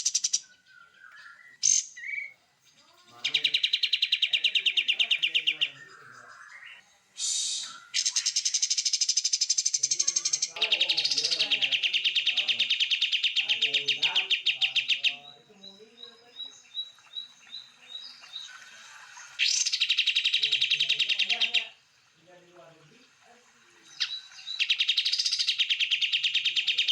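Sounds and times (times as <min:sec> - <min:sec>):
songbird trilling: 0:00.0 - 0:26.9.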